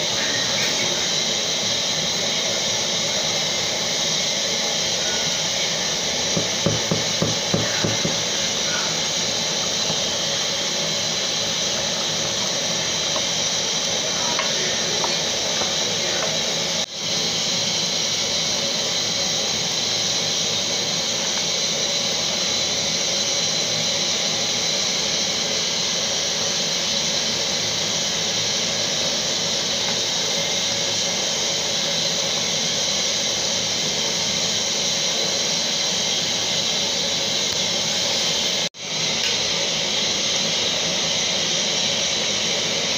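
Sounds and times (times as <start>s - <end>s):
pot simmering: 0.0s - 42.9s
stove hissing: 0.0s - 42.9s.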